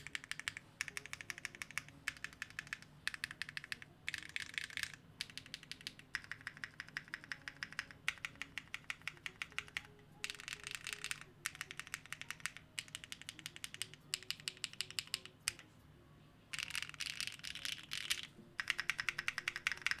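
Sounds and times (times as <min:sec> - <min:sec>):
fast typing on mechanical keyboard: 0:00.0 - 0:15.6, 0:16.6 - 0:20.0
soft background music: 0:00.0 - 0:20.0.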